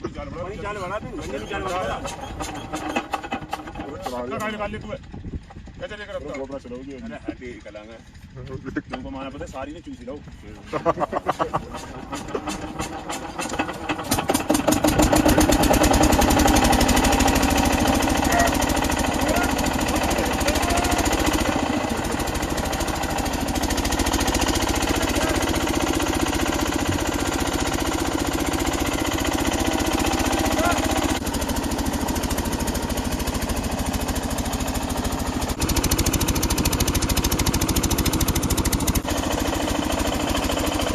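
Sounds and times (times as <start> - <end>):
diesel engine thudding: 0.0 - 6.7, 10.0 - 40.9.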